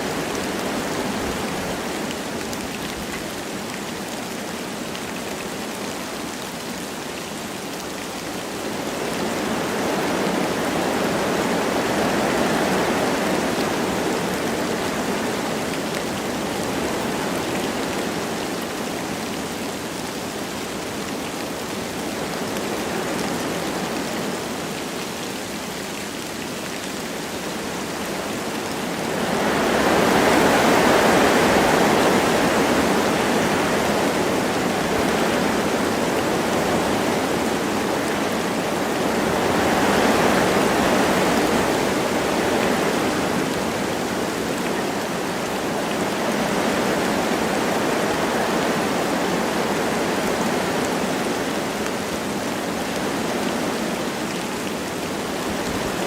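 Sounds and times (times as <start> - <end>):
light rain falling: 0.0 - 56.0
wind through forest trees: 0.0 - 56.0.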